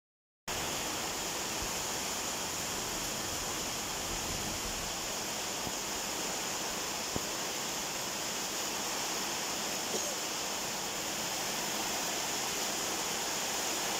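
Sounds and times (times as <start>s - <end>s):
heavy rain on foliage: 0.5s - 13.9s.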